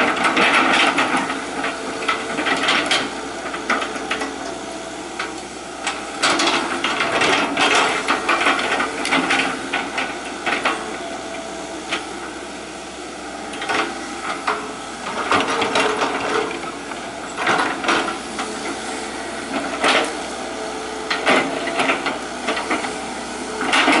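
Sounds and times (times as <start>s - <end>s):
excavator bucket knocking and scraping: 0.0s - 4.6s, 5.2s - 12.2s, 13.5s - 24.0s.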